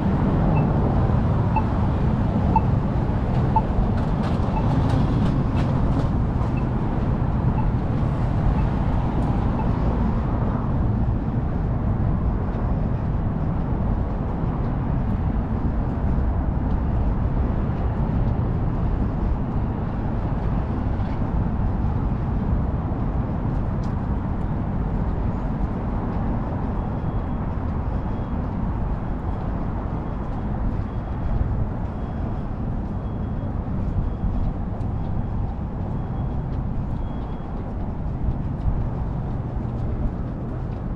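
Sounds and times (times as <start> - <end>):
street traffic rumble: 0.0 - 40.9.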